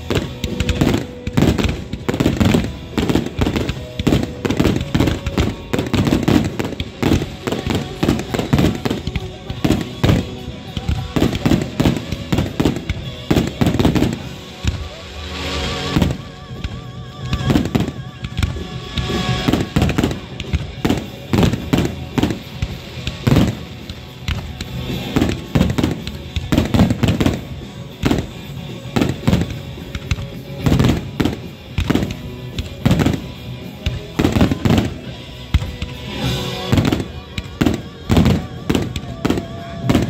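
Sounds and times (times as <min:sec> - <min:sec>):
fireworks bangs: 0:00.0 - 0:40.0
fireworks crackle: 0:00.0 - 0:40.0.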